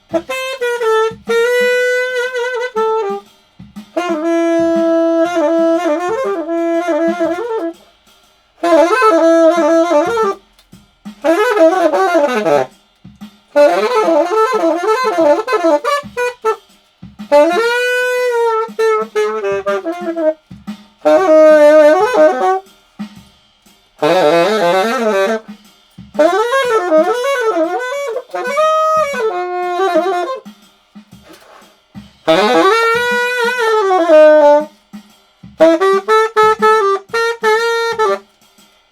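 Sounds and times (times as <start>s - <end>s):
faint low beat: 0.0s - 38.9s
solo saxophone jazzy melody: 0.0s - 38.9s.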